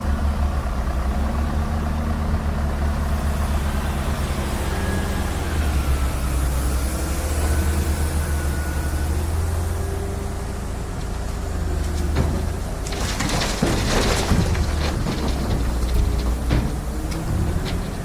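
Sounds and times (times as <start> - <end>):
diesel engines idling: 0.1 - 18.0.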